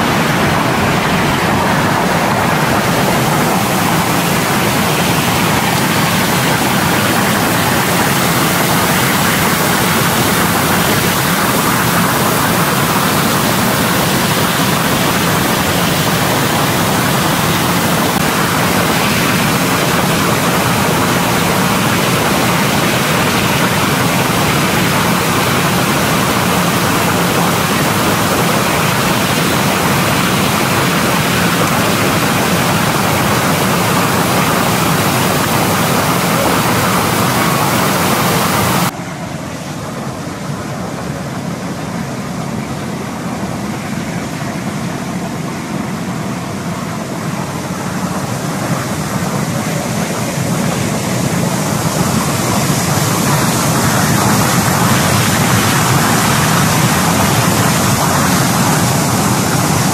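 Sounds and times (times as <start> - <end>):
churning spraying water: 0.0 - 59.9
low machine hum: 0.0 - 59.9.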